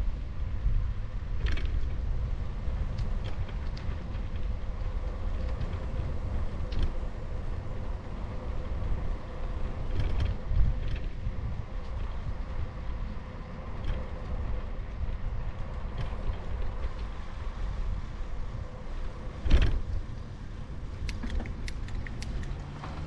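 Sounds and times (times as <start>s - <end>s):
low road rumble: 0.0s - 23.0s
wind buffeting microphone: 0.0s - 23.0s.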